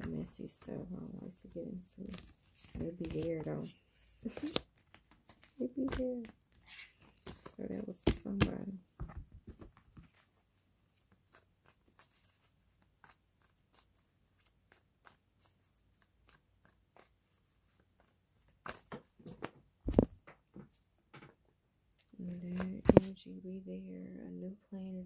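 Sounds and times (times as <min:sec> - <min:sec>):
cards being shuffled: 0:00.0 - 0:20.8, 0:22.0 - 0:23.2.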